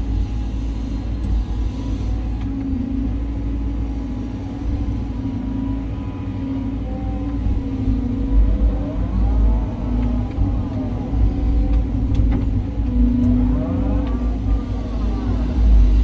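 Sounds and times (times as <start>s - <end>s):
excavator diesel engine rumbling: 0.0s - 16.0s
faint whine: 0.0s - 16.0s.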